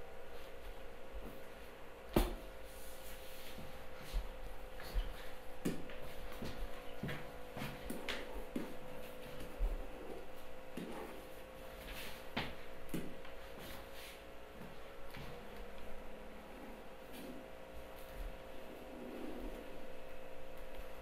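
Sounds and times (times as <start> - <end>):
steady faint hum: 0.0 - 21.0.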